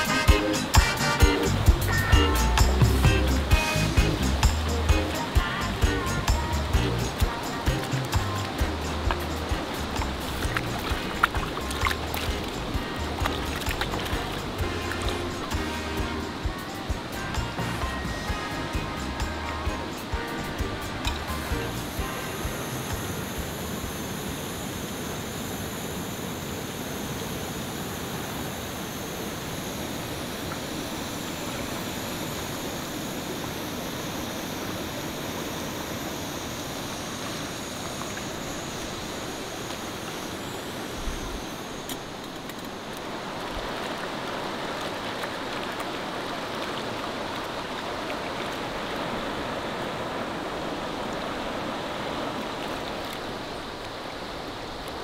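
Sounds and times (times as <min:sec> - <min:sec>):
river rushing over stones: 0:00.0 - 0:55.0.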